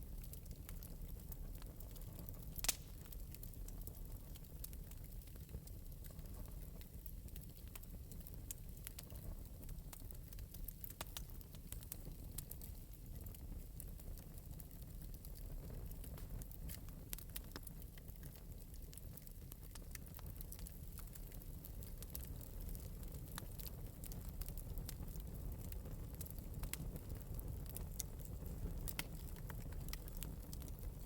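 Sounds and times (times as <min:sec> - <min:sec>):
fire crackling: 0:00.0 - 0:31.0
low rumble of flames: 0:00.0 - 0:31.0.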